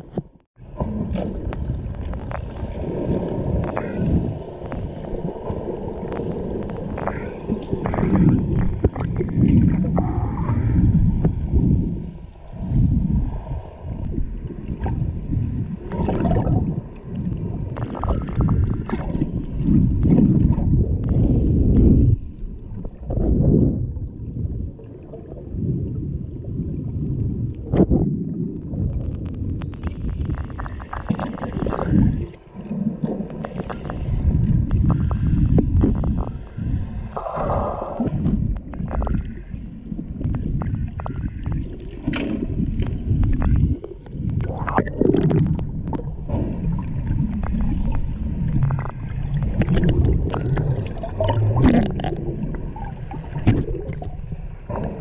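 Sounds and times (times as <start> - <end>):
muffled underwater water rushing: 0.0 - 55.0.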